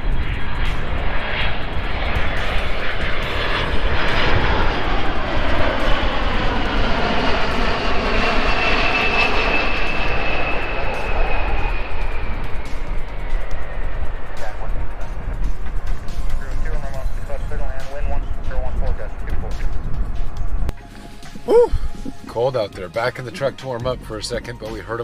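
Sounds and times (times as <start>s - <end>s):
high engine whine: 0.0s - 25.0s
jet engines passing: 0.0s - 25.0s.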